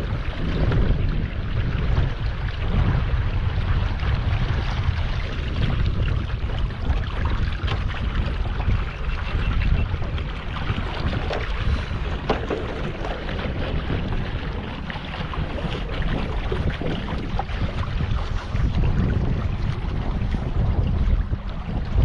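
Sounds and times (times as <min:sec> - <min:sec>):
water rushing and splashing: 0:00.0 - 0:22.0
wind rumbling on microphone: 0:00.0 - 0:22.0.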